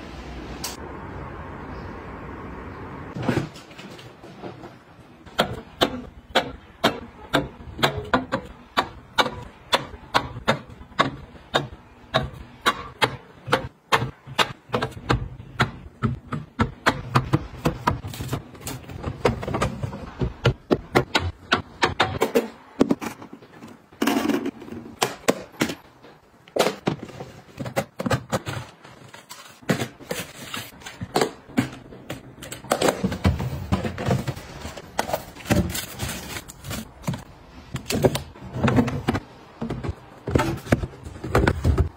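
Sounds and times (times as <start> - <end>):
items set on fridge shelves: 3.1 - 41.9.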